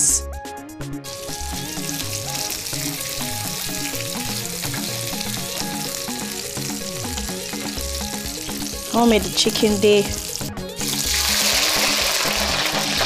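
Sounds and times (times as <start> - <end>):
chicken sizzling in a frying pan: 1.0 - 13.0.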